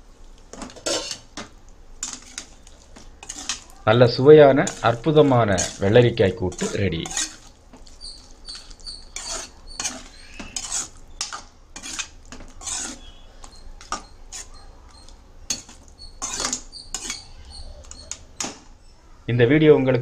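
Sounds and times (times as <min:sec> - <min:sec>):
spoon scraping metal pot: 0:00.5 - 0:18.6.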